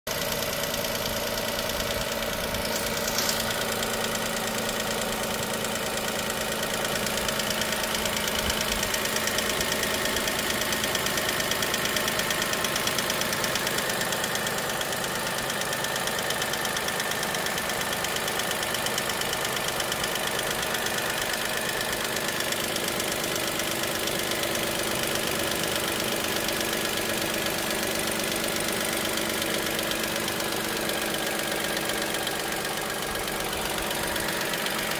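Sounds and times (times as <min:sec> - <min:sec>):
car engine idling: 0:00.1 - 0:34.9
fast even engine ticking: 0:00.1 - 0:34.9.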